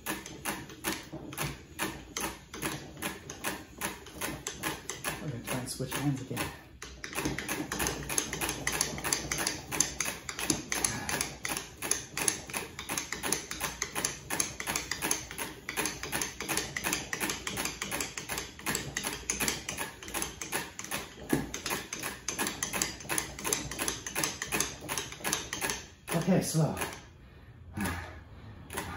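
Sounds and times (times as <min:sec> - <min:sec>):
hand crank clicking rapidly: 0:00.0 - 0:27.1, 0:27.8 - 0:28.9
rope rubbing on spinning cylinder: 0:00.0 - 0:28.9.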